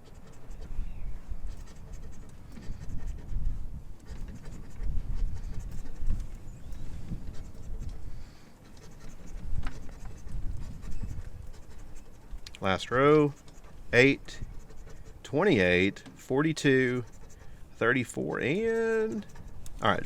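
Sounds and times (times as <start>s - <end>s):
lottery ticket scratching: 1.4s - 20.0s.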